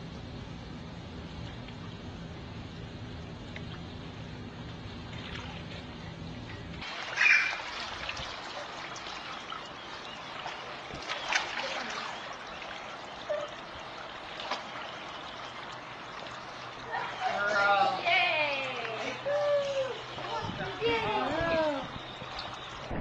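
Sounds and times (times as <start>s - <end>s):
low steady hum: 0.0s - 23.0s
pool water splashing: 1.2s - 23.0s.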